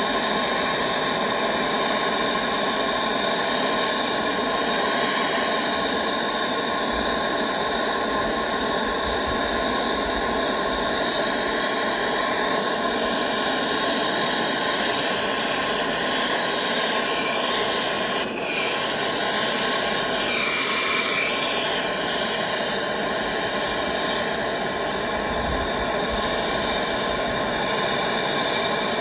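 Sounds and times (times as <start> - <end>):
gas torch hissing: 0.0 - 29.0.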